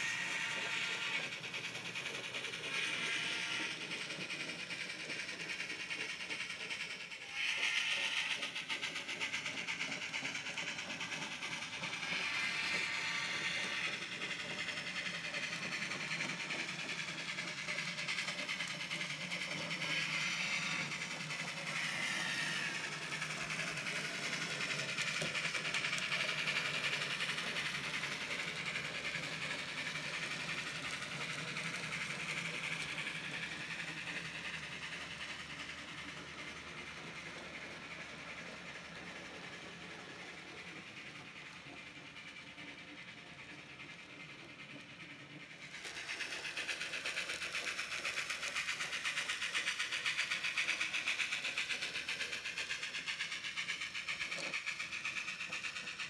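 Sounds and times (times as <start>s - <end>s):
model train wheels and motor whirring: 0.0s - 56.0s.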